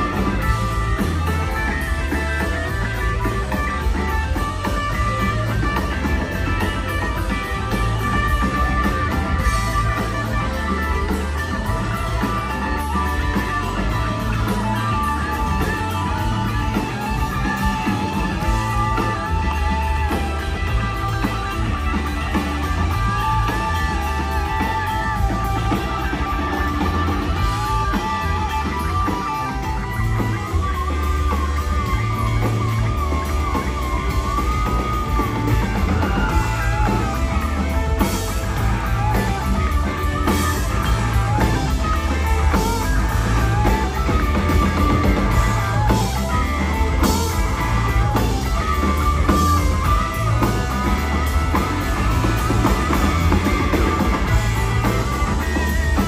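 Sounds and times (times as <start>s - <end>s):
electric guitar lead lines: 0.0s - 56.0s
live rock band playing: 0.0s - 56.0s.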